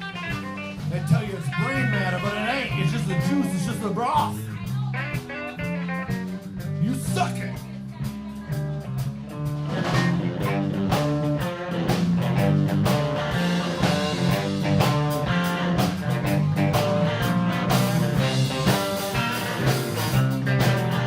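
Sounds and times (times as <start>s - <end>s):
live blues band playing: 0.0s - 21.0s.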